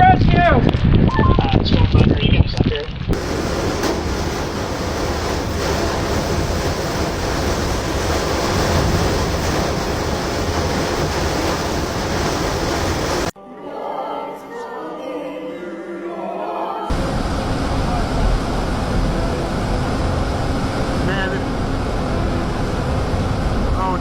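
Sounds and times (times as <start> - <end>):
storm wind buffeting microphone: 0.0 - 13.3, 16.9 - 24.0.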